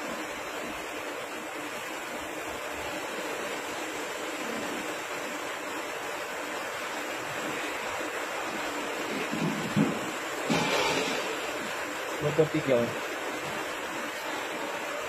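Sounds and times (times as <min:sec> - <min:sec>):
coolant spraying hiss: 0:00.0 - 0:15.0.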